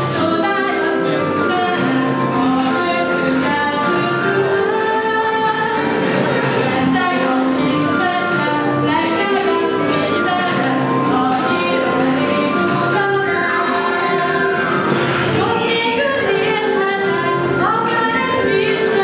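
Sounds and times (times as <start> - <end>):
musical accompaniment: 0.0 - 19.0.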